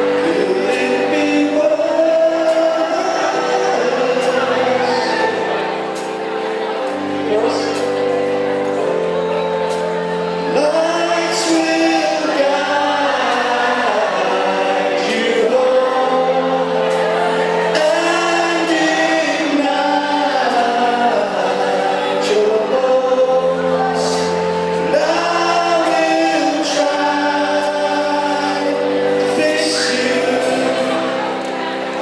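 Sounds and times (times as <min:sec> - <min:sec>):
group of voices singing: 0:00.0 - 0:32.0
live band playing: 0:00.0 - 0:32.0.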